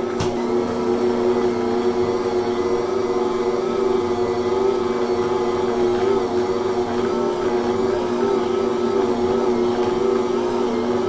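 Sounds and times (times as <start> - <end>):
stand mixer motor hum: 0.0 - 11.0.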